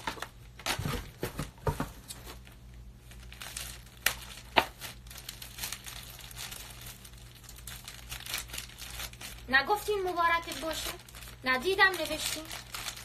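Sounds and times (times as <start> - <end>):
plastic wrapper crinkling and tearing: 2.4 - 13.0.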